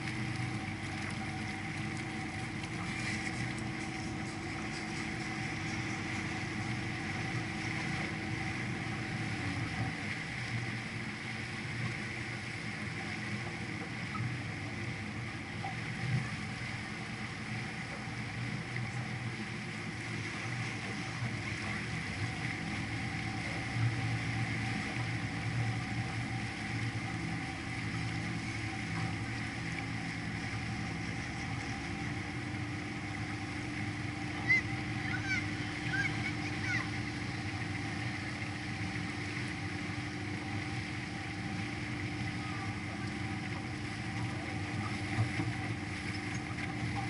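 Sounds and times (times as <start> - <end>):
boat motor humming: 0.0 - 47.0.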